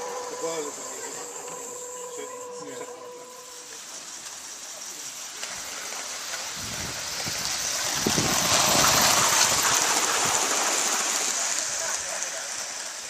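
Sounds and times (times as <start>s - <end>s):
steam hiss: 0.0s - 13.0s
wheels rattling on rails: 0.0s - 13.0s.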